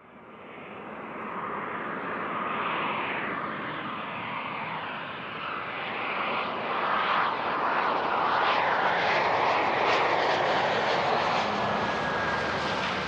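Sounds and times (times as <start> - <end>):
airplane engines passing: 0.1 - 13.0.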